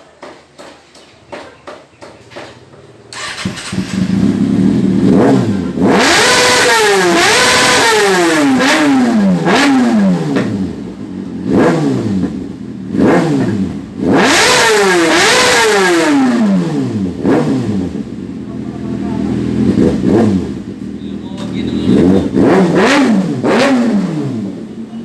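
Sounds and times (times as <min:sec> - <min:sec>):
engine revving hard: 0:03.1 - 0:18.2, 0:18.8 - 0:24.7.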